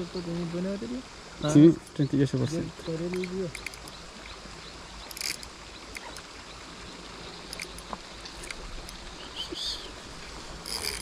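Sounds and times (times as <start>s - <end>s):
faint crackling bursts: 0.0s - 11.0s
river water running: 0.0s - 11.0s.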